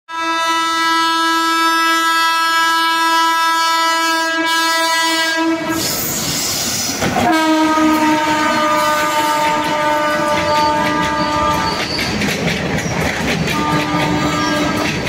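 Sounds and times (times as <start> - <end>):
train horn blast: 0.1 - 6.1, 7.2 - 11.9, 13.5 - 15.0
rush of oncoming train: 0.1 - 15.0.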